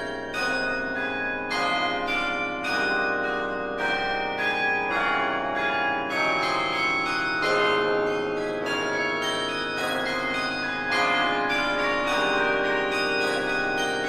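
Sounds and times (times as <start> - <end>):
bass bells: 0.0 - 14.0
carillon bells playing a melody: 0.0 - 14.0.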